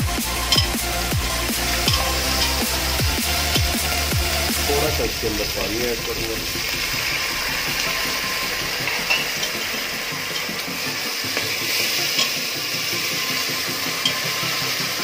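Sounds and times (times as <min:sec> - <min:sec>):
masala sizzling in a pot: 0:00.0 - 0:15.0.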